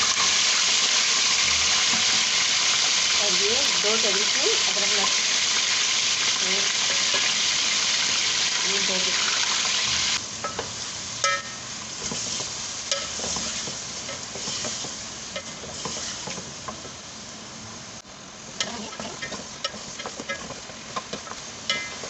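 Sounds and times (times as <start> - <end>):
chicken sizzling in a pot: 0.0 - 22.0.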